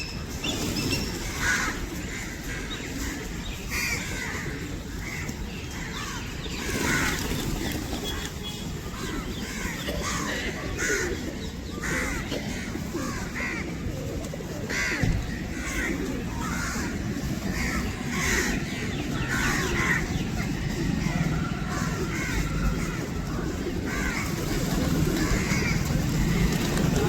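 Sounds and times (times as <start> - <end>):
flock of birds calling: 0.0 - 27.0.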